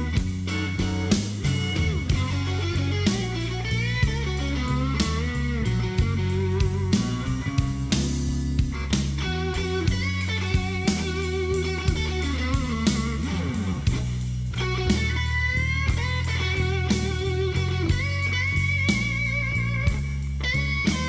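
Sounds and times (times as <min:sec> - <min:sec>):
guitar playing: 0:00.0 - 0:21.0
steady drum beat: 0:00.0 - 0:21.0.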